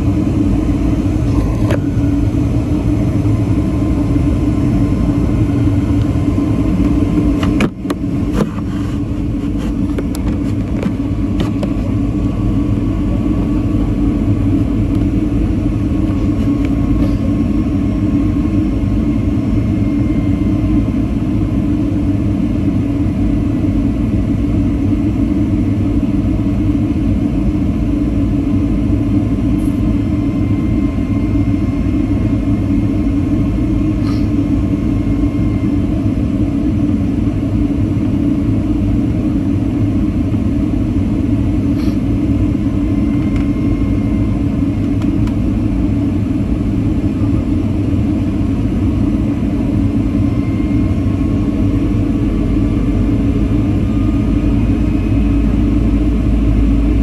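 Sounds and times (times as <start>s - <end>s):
airliner cabin engine roar: 0.0s - 57.0s
faint high whine: 0.0s - 57.0s.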